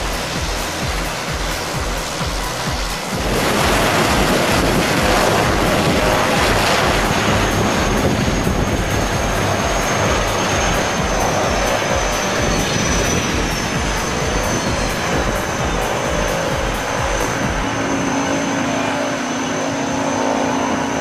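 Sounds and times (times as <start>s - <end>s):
high turbine whine: 0.0s - 21.0s
turboprop airplane engine noise: 0.0s - 21.0s.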